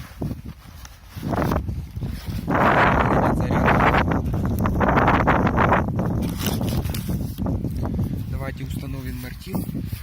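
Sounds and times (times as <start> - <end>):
rustling and handling noise: 0.0 - 4.9, 5.9 - 10.0
wind buffeting microphone: 0.0 - 10.0.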